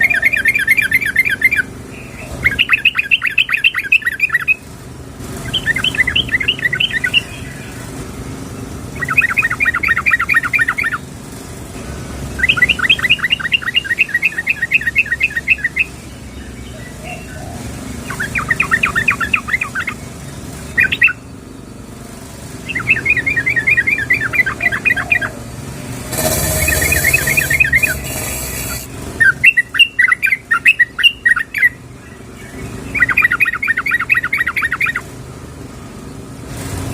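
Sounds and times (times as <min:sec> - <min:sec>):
bird calling in rapid chirps: 0:00.0 - 0:04.7, 0:05.4 - 0:07.9, 0:08.6 - 0:11.2, 0:12.4 - 0:21.5, 0:22.6 - 0:35.1.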